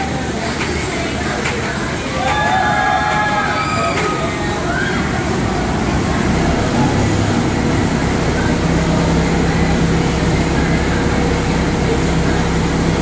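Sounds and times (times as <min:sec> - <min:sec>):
roller coaster lift hill hum: 0:00.0 - 0:13.0.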